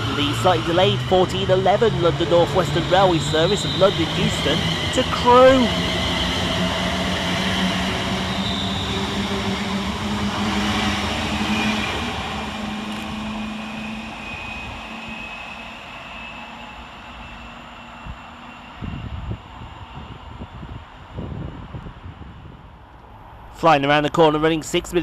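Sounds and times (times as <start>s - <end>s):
train electric hum and whine: 0.0s - 25.0s
wheels rumbling on rail: 0.0s - 25.0s.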